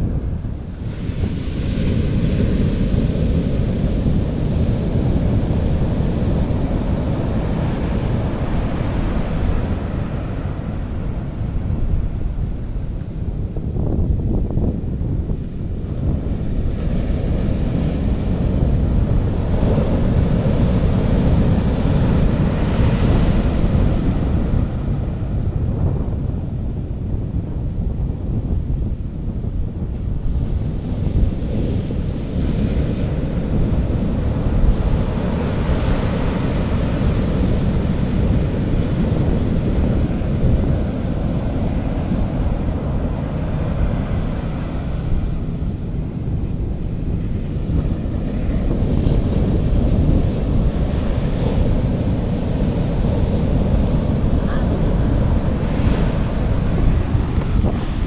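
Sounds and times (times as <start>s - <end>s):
sea waves washing on beach: 0.0s - 13.4s, 15.4s - 25.9s, 29.8s - 58.0s
wind rumble on microphone: 0.0s - 58.0s.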